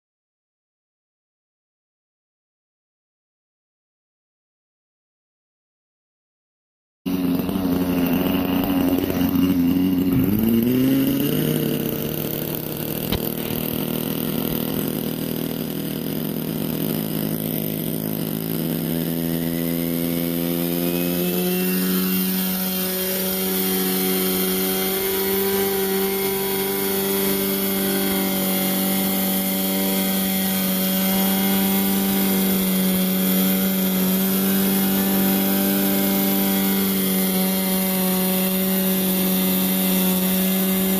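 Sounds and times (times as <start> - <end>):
small two-stroke engine running: 7.1 - 40.9.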